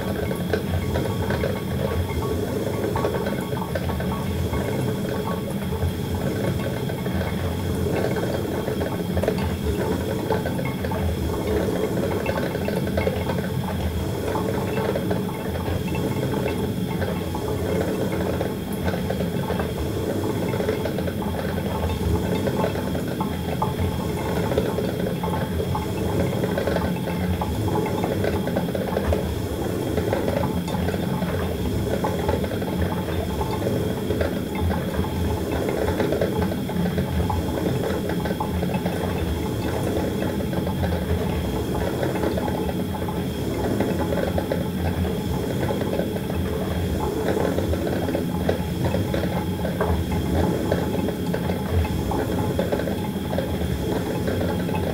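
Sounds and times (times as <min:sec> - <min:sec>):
coffee maker gurgling: 0:00.0 - 0:54.9.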